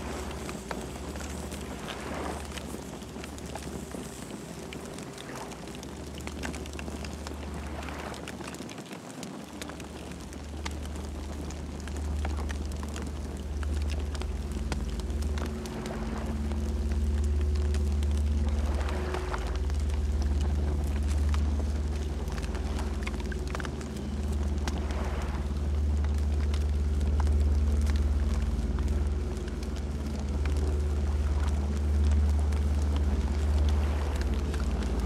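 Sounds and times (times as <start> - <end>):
campfire crackling and popping: 0.0 - 35.0
low fire rumble: 0.0 - 35.0.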